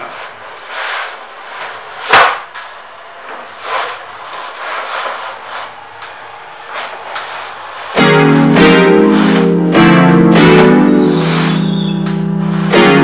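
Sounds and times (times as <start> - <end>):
vinyl banner swishing: 0.0 - 2.4, 3.5 - 5.9, 6.6 - 13.0.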